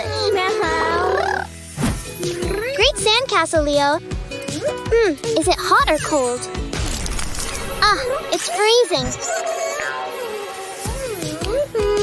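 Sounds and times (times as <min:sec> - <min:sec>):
cartoon background music: 0:00.0 - 0:12.0.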